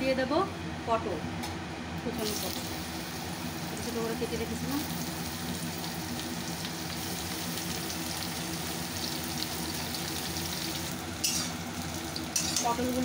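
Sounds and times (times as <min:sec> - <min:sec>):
vegetables sizzling in hot oil: 0:02.2 - 0:13.0.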